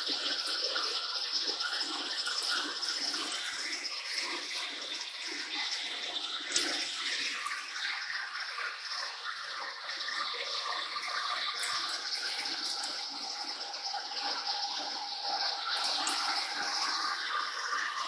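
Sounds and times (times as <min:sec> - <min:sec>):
coolant rushing and splashing: 0:00.0 - 0:18.0.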